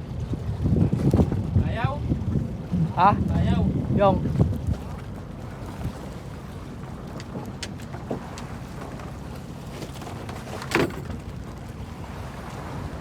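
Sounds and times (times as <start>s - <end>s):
sea noise: 0.0s - 13.0s
wind rumbling on microphone: 0.0s - 13.0s.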